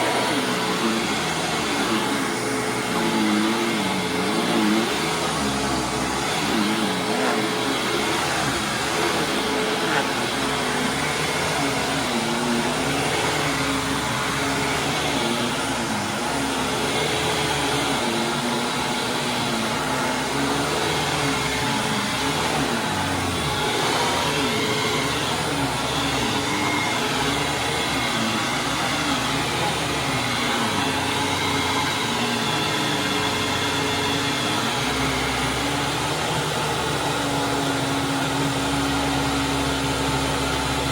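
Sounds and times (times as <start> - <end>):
vacuum cleaner running over carpet: 0.0 - 40.9.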